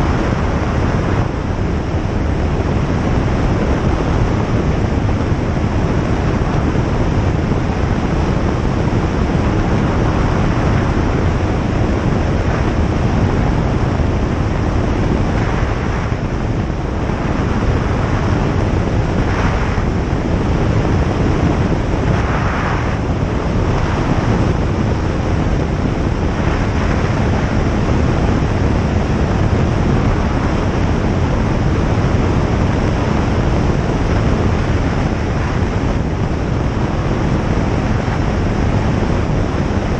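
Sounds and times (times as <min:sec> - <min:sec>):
aircraft engine and propeller drone: 0:00.0 - 0:39.9
airflow: 0:00.0 - 0:39.9.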